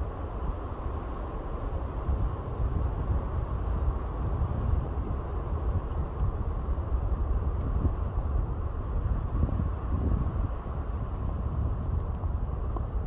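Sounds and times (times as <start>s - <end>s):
wind buffeting microphone: 0.0s - 13.0s
wind rushing through pines: 0.0s - 13.0s.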